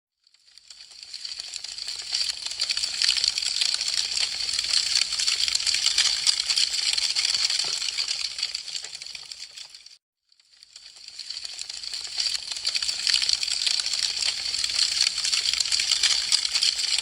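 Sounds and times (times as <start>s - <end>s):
wood fire crackling: 0.4s - 10.0s, 10.6s - 17.0s.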